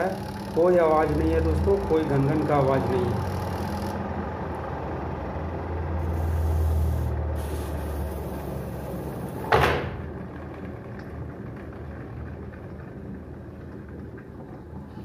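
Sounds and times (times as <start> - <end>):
spin-dryer motor humming: 0.0 - 15.0.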